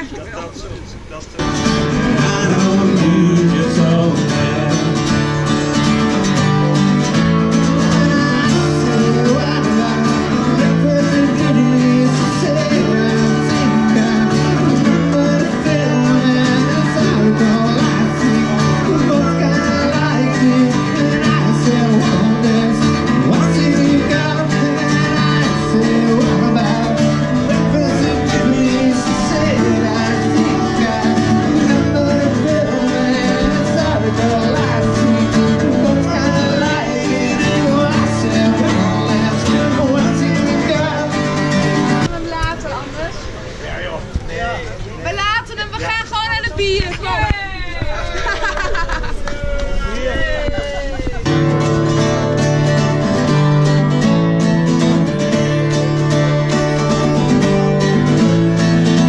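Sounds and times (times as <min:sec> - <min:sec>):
acoustic guitar music: 0:01.0 - 0:48.2, 0:49.4 - 0:59.0.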